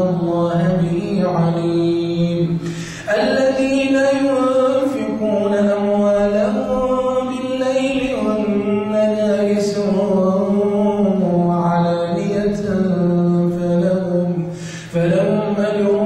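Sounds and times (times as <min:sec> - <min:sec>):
man chanting melodic recitation: 0:00.0 - 0:16.0.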